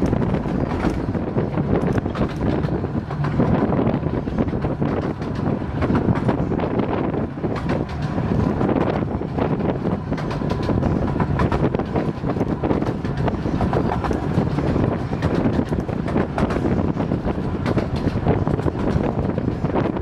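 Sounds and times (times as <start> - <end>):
train wheels clattering: 0.0 - 20.0
wind buffeting microphone: 0.0 - 20.0.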